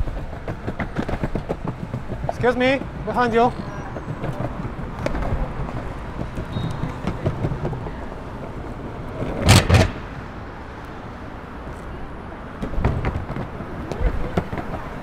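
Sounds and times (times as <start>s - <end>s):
longboard wheels rolling on pavement: 0.0s - 15.0s.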